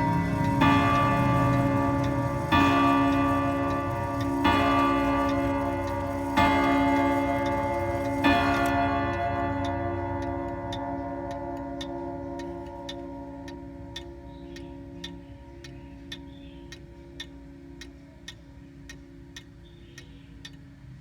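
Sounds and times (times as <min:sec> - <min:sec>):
clock chime rods striking: 0:00.0 - 0:17.9
pendulum clock ticking: 0:00.0 - 0:21.0.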